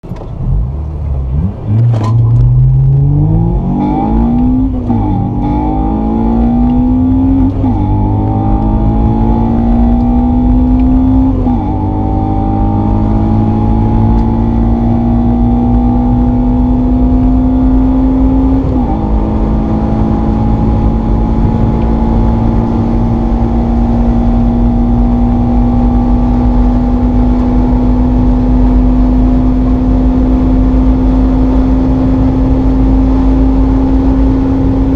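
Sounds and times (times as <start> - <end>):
car engine accelerating through gears: 0.0 - 34.9.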